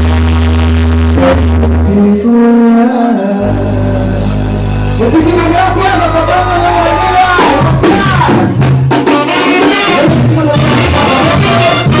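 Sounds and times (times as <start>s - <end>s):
bass line: 0.0s - 12.0s
person singing: 1.2s - 11.8s.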